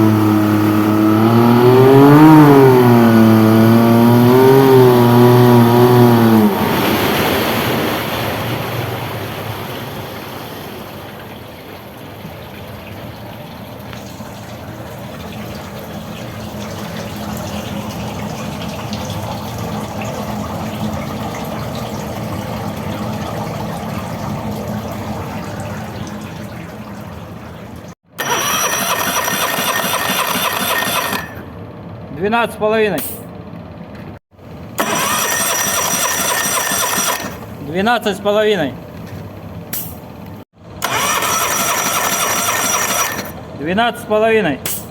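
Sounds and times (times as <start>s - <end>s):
outboard motor idling: 0.0s - 32.9s, 33.5s - 44.9s.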